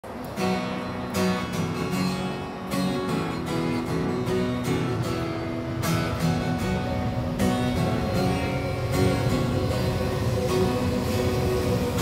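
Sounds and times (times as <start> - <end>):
acoustic guitar strumming chords: 0.1 - 12.0.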